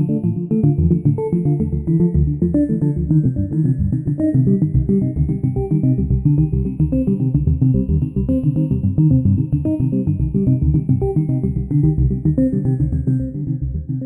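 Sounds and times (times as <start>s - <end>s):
plucked bass and synthesizer music: 0.0s - 14.0s.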